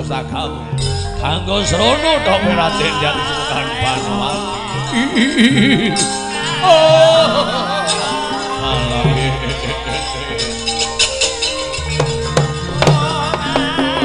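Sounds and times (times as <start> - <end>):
gamelan music: 0.0 - 14.0
sharp percussive strikes: 0.8 - 14.0.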